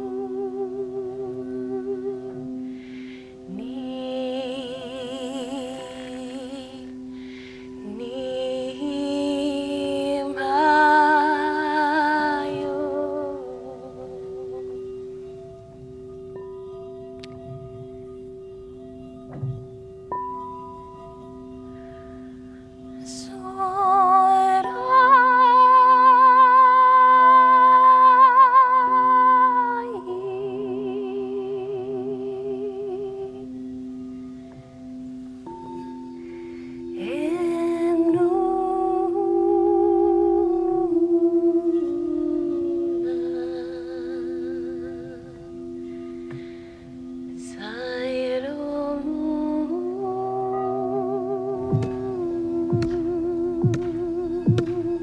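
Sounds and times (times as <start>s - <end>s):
person singing wordless melody: 0.0s - 18.2s, 20.1s - 55.0s
singing bowl steady tone: 0.0s - 55.0s.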